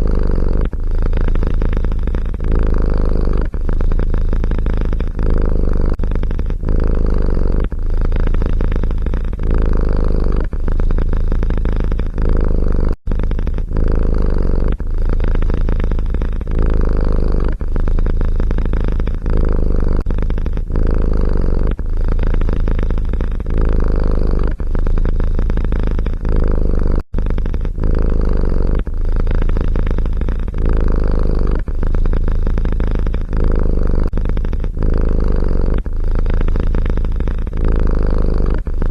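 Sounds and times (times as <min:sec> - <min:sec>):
cat purring loudly: 0:00.0 - 0:38.9.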